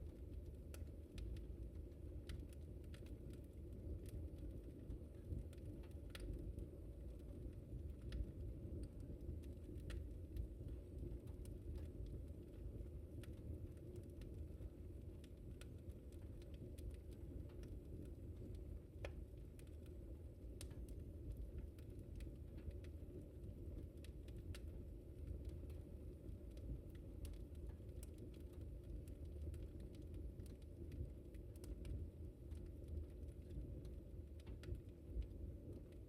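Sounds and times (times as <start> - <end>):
low fire rumble: 0.0 - 36.0
wood fire crackling and popping: 0.0 - 36.0.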